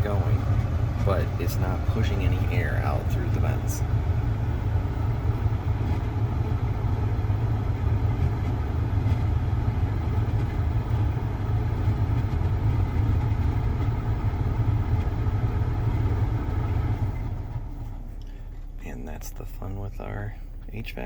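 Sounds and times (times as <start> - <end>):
blower fan rumbling whoosh: 0.0 - 21.0.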